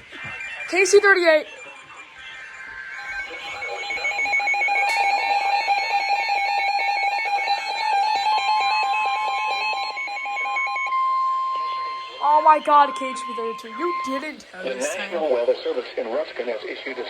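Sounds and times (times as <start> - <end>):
warbling electronic alarm: 0.0 - 15.6
steady warning tone: 0.5 - 15.3.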